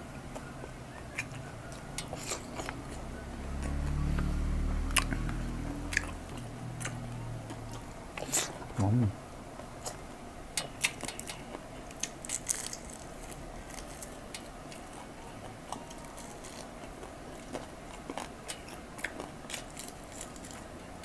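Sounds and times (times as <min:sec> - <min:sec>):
crunchy chewing of fried chicken: 0:00.2 - 0:21.0.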